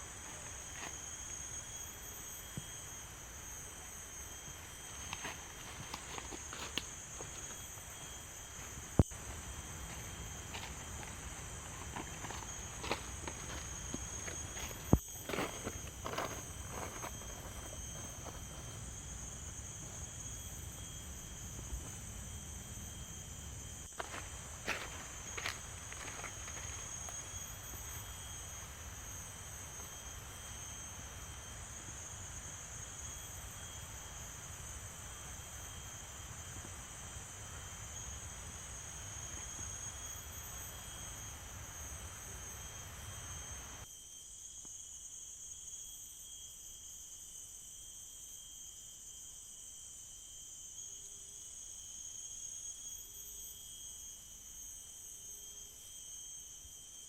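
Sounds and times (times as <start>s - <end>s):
forest insects chorus: 0.0s - 57.0s.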